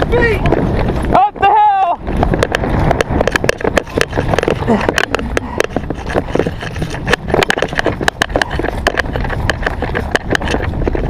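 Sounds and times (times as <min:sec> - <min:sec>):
footsteps crunching: 0:00.0 - 0:11.0
gear rustling: 0:02.0 - 0:11.0.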